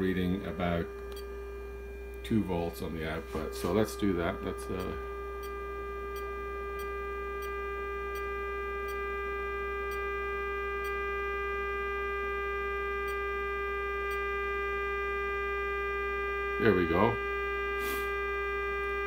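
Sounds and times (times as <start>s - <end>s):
low mains hum: 0.0s - 19.0s
sine-wave test tone: 0.0s - 19.0s.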